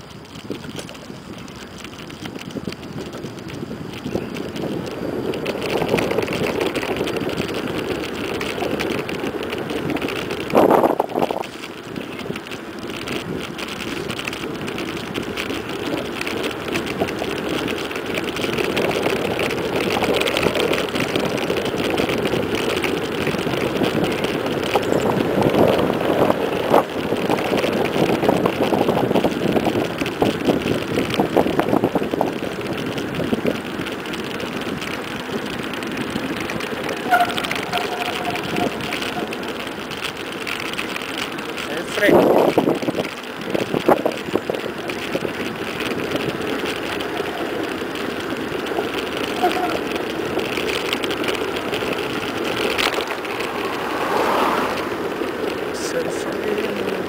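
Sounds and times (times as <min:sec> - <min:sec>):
wind on microphone: 0:00.0 - 0:41.0, 0:41.7 - 0:57.0
bike rattling on asphalt: 0:00.0 - 0:57.0.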